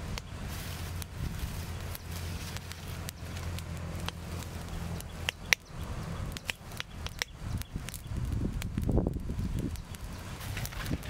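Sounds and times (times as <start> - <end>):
fire crackling and popping: 0.0 - 11.0
low steady rumble: 0.0 - 11.0.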